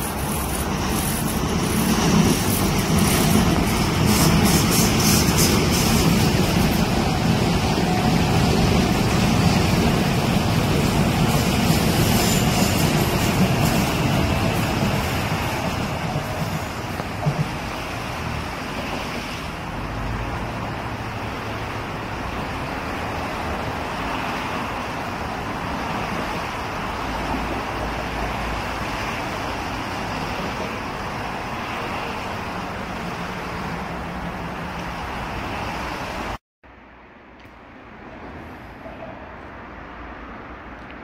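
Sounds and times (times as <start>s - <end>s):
train wheels rumbling on rails: 0.0s - 36.4s
station platform ambience: 0.0s - 41.0s.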